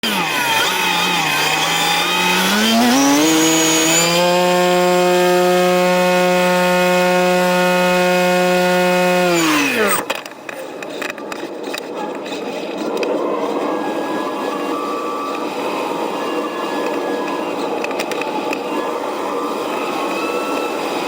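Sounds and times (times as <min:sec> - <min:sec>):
model aircraft motor and propeller: 0:00.0 - 0:21.0.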